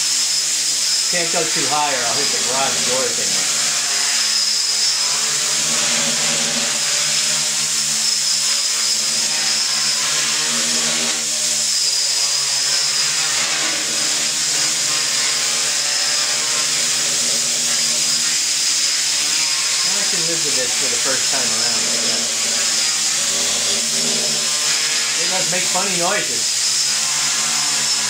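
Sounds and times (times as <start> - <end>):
quadcopter motors buzzing: 0.0 - 28.0.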